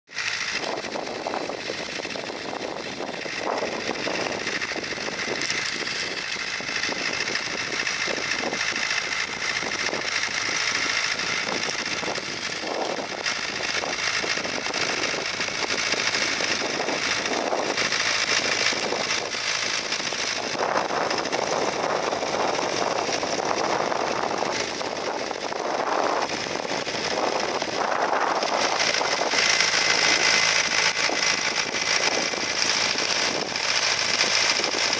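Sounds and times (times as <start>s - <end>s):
tractor engine under load: 0.1s - 34.9s.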